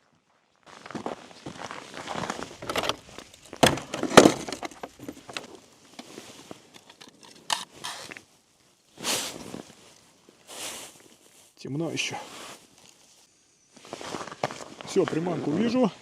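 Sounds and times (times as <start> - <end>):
footsteps crunching on snow: 0.6 - 6.7, 7.6 - 16.0.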